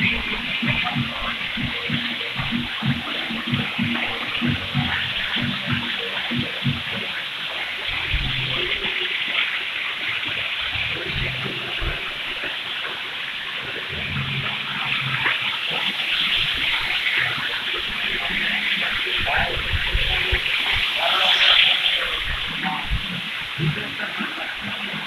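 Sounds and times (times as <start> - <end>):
small water splashes: 0.0 - 25.0
stream water rushing: 0.0 - 25.0.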